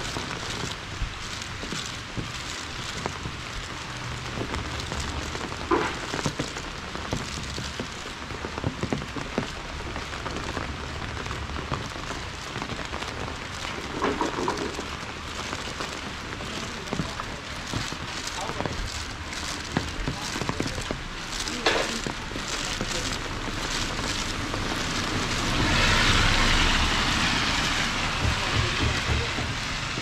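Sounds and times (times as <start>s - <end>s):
raindrops striking close by: 0.0s - 30.0s
steady rain falling: 0.0s - 30.0s.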